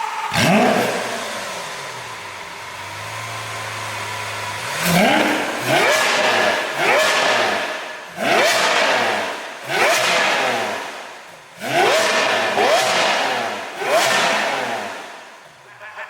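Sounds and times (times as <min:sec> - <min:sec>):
sports car engine revving: 0:00.0 - 0:16.0.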